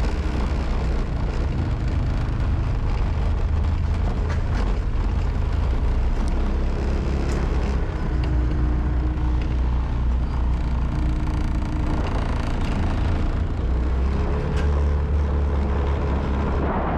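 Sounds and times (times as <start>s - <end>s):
faint engine hum: 0.0s - 16.9s
vehicle rumbling on dirt road: 0.0s - 16.9s.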